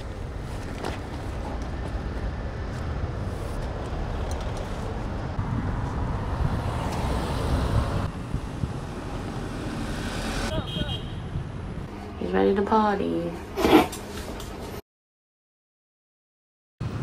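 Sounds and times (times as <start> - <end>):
road traffic rumble: 0.0 - 14.8.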